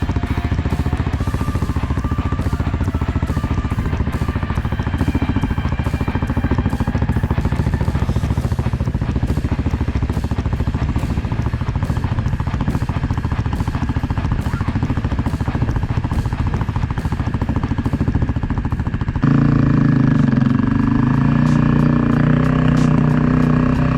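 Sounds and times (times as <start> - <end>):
dirt bike engine running: 0.0 - 23.9.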